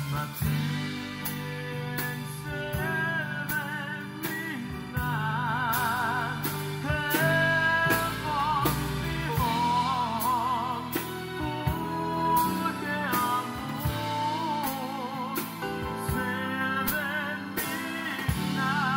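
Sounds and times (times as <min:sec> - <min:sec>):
drum kit beat: 0:00.0 - 0:18.9
electric bass: 0:00.0 - 0:18.9
keyboard: 0:00.0 - 0:18.9
man singing slow song: 0:00.0 - 0:18.9.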